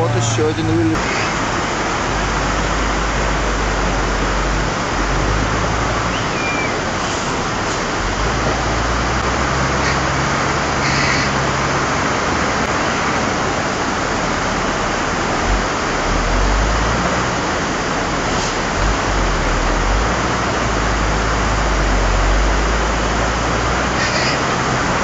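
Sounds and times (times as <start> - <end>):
floodwater rushing over rocks: 0.0 - 25.0
lorry engine rumbling: 0.0 - 25.0.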